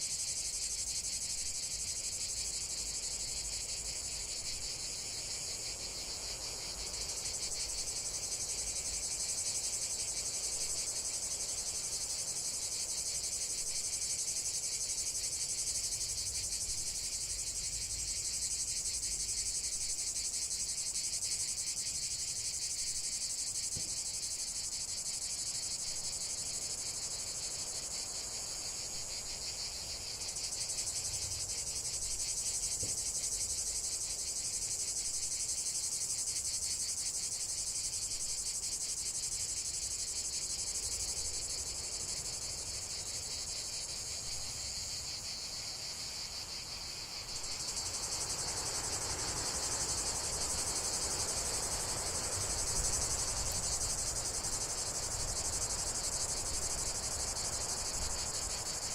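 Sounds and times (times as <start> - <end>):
crickets chirping: 0.0 - 58.9.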